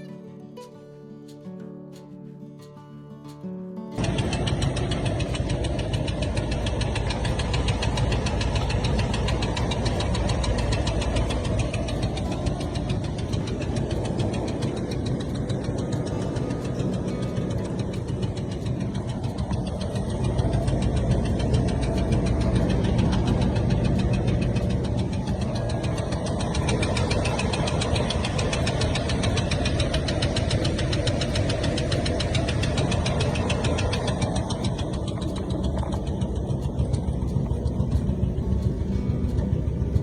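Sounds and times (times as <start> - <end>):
car engine running: 4.0 - 40.0.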